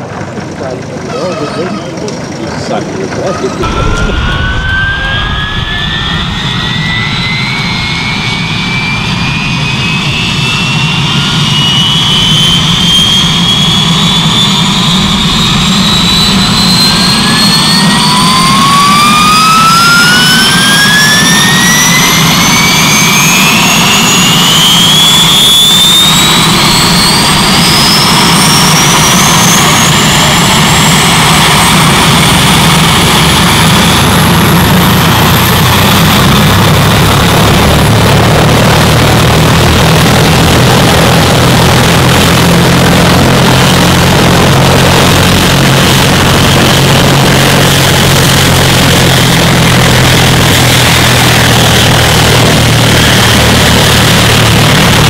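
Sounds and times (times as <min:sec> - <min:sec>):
helicopter turbine engine whine: 0:00.0 - 0:55.0
low hum: 0:00.0 - 0:55.0.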